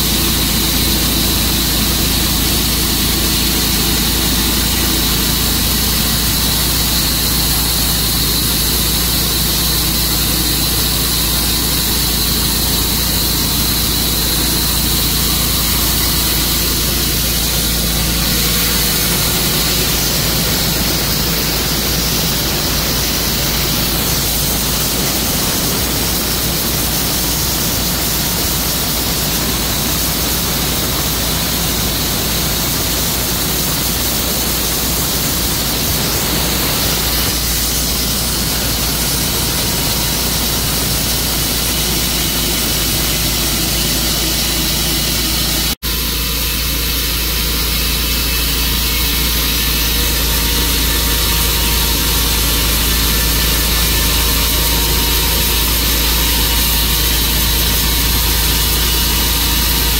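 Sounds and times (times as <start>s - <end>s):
sawmill engine drone: 0.0s - 59.9s
steady hiss: 0.0s - 59.9s.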